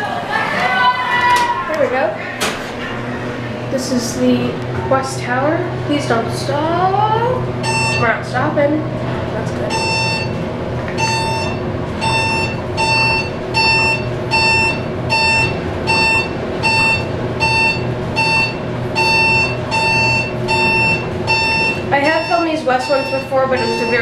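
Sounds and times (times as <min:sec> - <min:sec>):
elevator car humming: 0:00.0 - 0:24.0.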